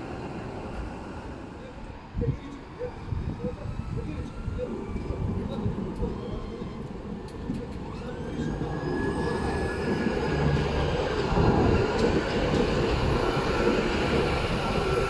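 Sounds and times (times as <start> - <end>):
tram wheels rumbling on track: 0.0 - 15.0.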